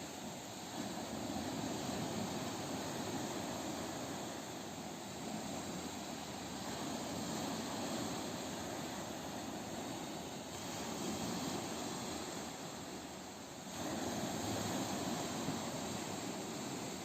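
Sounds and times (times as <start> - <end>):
ocean waves washing on shore: 0.0 - 17.0.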